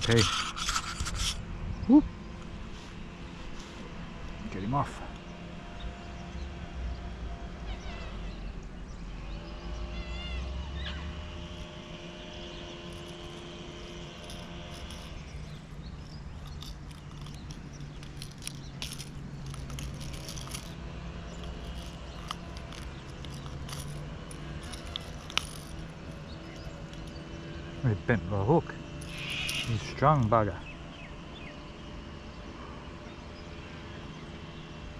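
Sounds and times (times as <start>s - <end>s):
steady engine drone: 0.0s - 34.9s.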